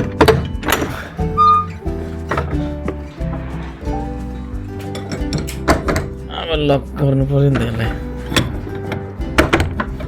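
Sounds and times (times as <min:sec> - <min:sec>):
background music with held notes: 0:00.0 - 0:10.0
low bass: 0:00.0 - 0:10.0.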